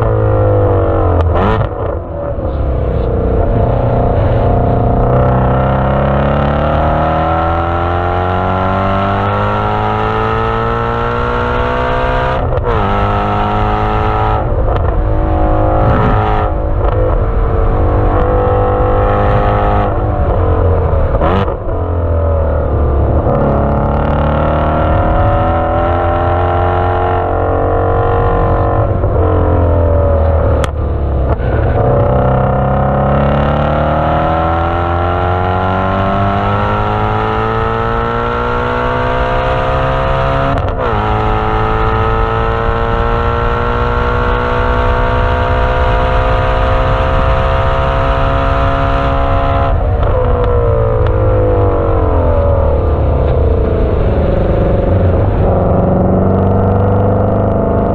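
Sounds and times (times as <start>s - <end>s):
car engine at full throttle: 0.0s - 57.9s.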